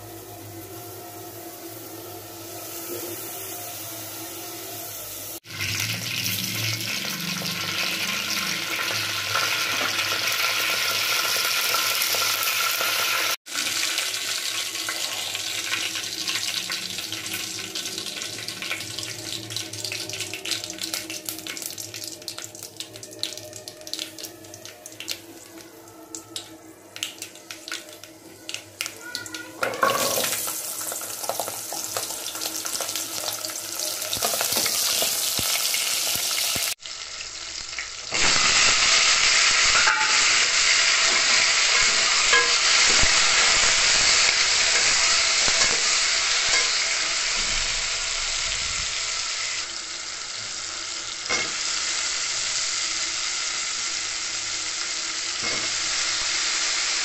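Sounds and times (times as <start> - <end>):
oil hissing and crackling in pot: 0.0 - 57.0
shallots sizzling in hot oil: 0.0 - 57.0.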